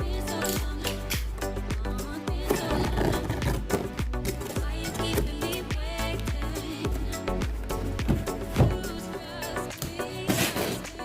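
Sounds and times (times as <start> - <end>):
afrobeat music with strong bass: 0.0 - 11.0.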